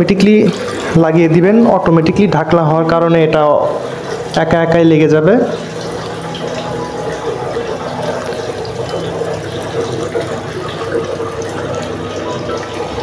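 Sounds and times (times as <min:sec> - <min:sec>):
washing machine filling with water: 0:00.0 - 0:13.0.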